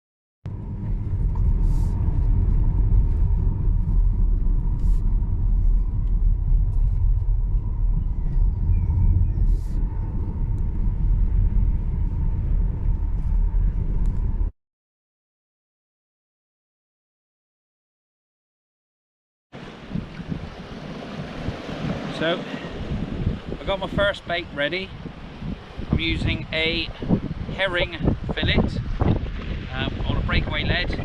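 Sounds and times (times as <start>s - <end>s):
wind buffeting microphone: 0.5s - 14.5s, 19.6s - 31.0s.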